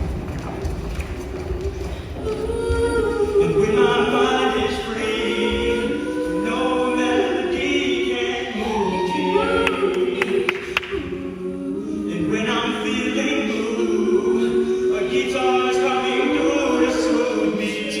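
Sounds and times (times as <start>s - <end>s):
choir singing in harmony: 0.0s - 18.0s.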